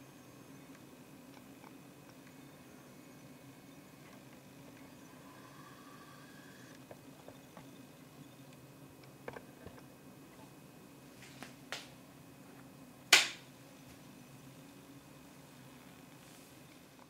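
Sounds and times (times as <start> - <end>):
faint low steady hum: 0.0 - 17.0.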